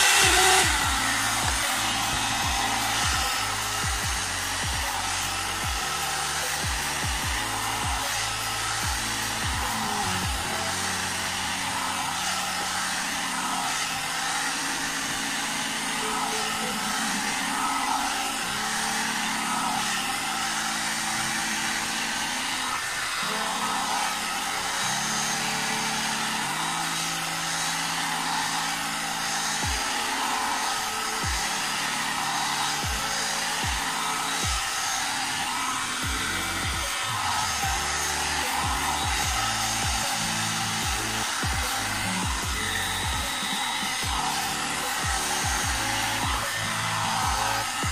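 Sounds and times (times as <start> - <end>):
background music with low notes: 0.0 - 47.9
hot air brush blowing: 0.0 - 47.9.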